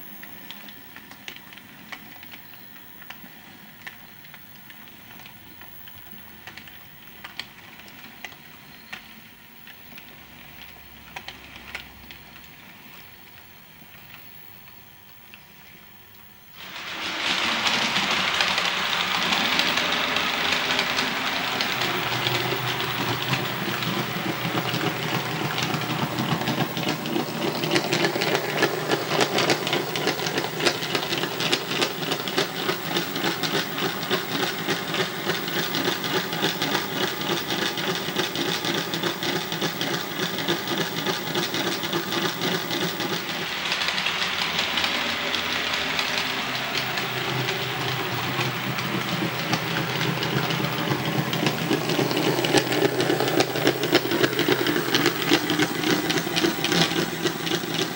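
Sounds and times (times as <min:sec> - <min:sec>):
model locomotive running on track: 0:00.0 - 0:09.0, 0:16.5 - 0:57.9.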